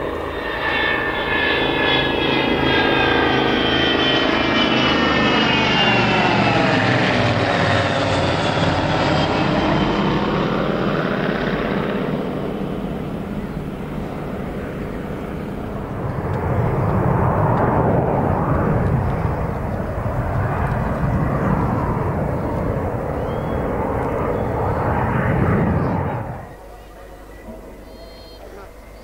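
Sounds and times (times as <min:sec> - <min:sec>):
jet aircraft roar: 0:00.0 - 0:29.0.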